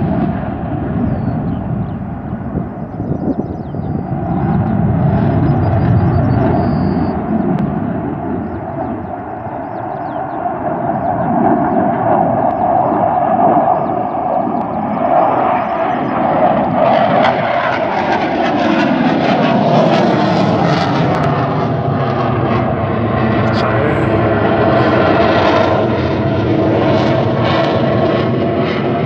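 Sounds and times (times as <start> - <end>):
jet engines flying overhead: 0.0 - 29.0.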